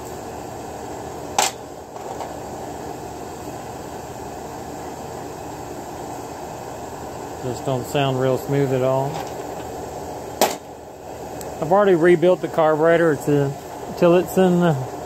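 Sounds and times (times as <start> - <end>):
fan-like whirr: 0.0 - 15.0.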